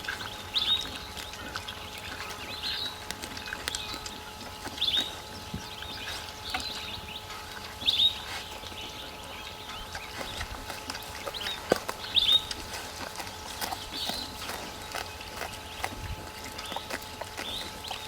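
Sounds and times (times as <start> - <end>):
faint steady hum: 0.0 - 18.0
bird chirping: 0.1 - 18.0.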